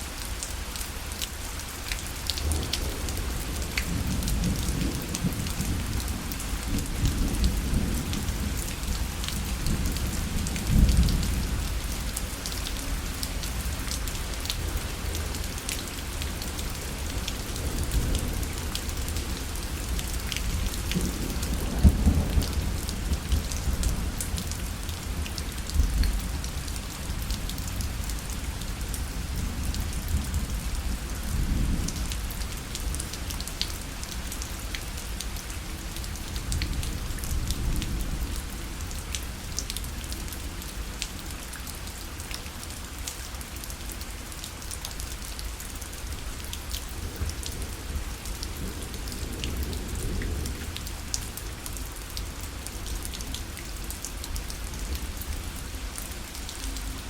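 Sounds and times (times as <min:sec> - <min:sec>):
rain pattering on fabric parasol: 0:00.0 - 0:57.0.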